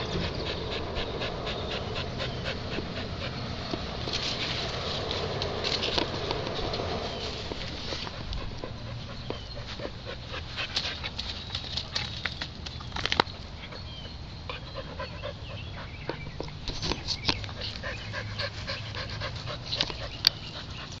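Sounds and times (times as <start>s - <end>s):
dog panting: 0.0s - 11.9s, 13.6s - 21.0s.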